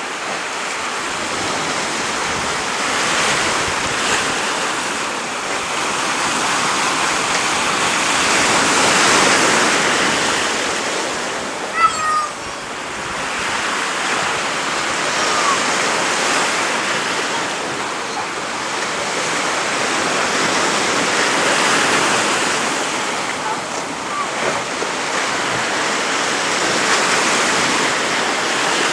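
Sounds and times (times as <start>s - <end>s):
sea surf rushing: 0.0s - 28.9s.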